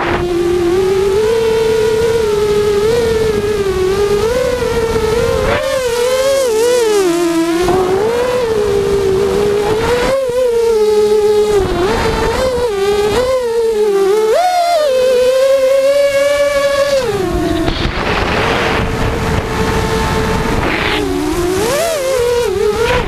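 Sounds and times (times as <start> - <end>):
quadcopter motors whining: 0.0 - 23.0.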